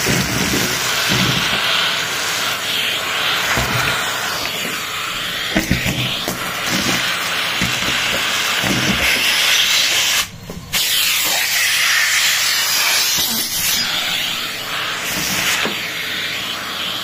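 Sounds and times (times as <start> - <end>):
vacuum cleaner suction hiss: 0.0 - 17.0.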